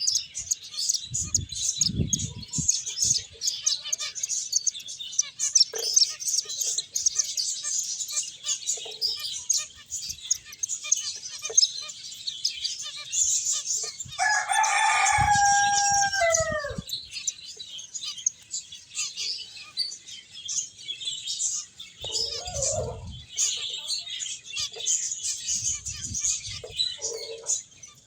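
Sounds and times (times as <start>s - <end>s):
finches chirping: 0.0s - 28.0s.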